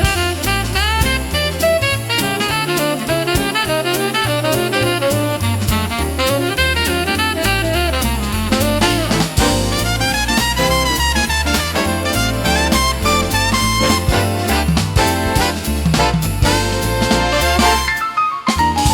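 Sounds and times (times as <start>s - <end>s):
instrumental swing jazz: 0.0s - 18.9s.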